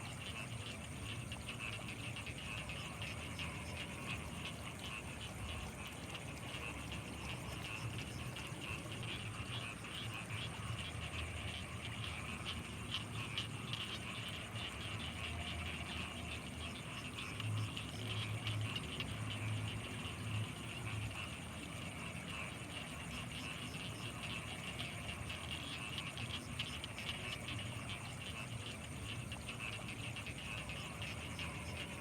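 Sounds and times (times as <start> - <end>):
low pulsing frog croaks: 0.0 - 32.0.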